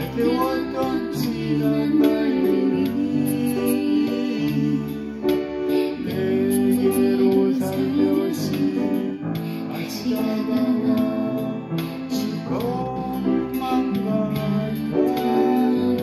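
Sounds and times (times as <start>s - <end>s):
upright piano ballad: 0.0s - 16.0s.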